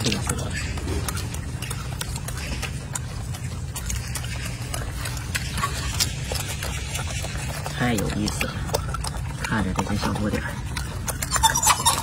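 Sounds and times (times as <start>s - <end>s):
steady low rumble: 0.0s - 11.3s
monkeys chewing and handling leaves: 0.0s - 12.0s.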